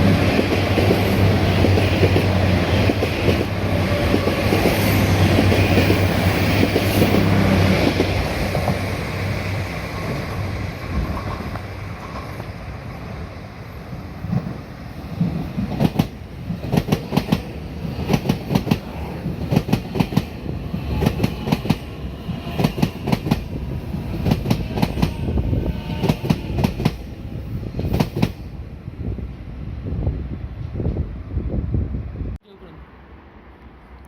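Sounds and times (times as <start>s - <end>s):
train rumbling past: 0.0s - 34.0s.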